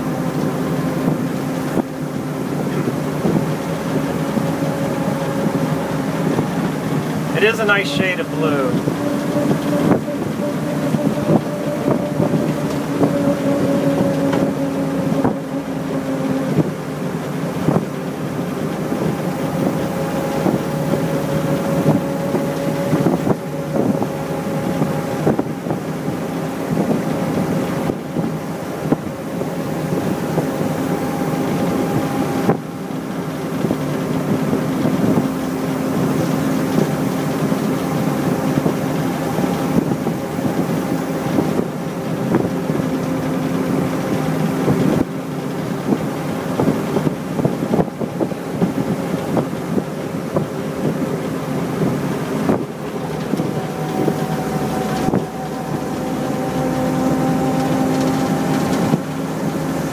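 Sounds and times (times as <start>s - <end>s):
truck engine humming: 0.0s - 59.9s
wind noise: 0.0s - 59.9s.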